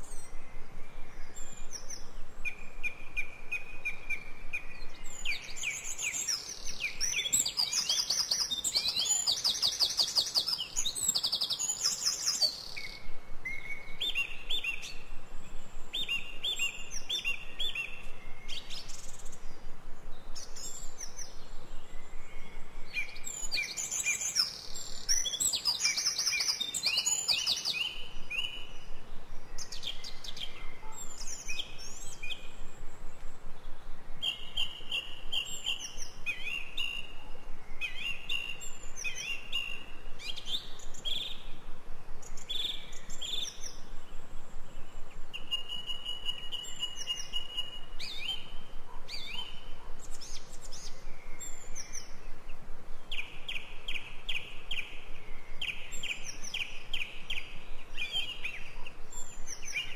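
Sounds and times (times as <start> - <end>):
songbirds singing trills: 0.0 - 59.9.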